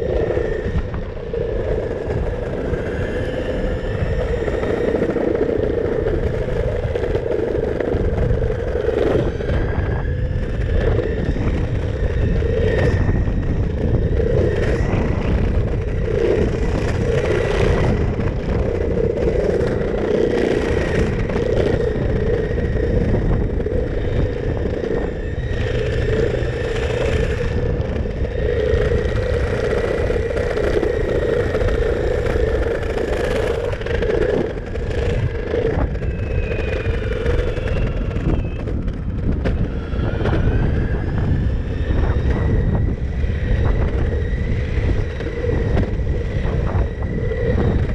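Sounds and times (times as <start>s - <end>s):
faint high motor whine: 0.0s - 47.9s
skateboard wheel rumble: 0.0s - 47.9s.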